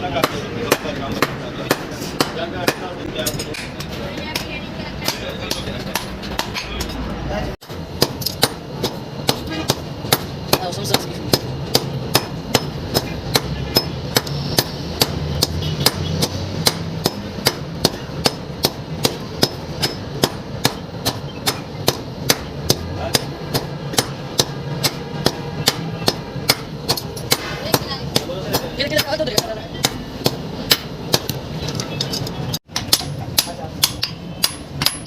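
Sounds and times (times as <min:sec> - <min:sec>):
hammer striking iron on anvil: 0:00.0 - 0:07.0, 0:07.6 - 0:31.4, 0:32.7 - 0:35.0.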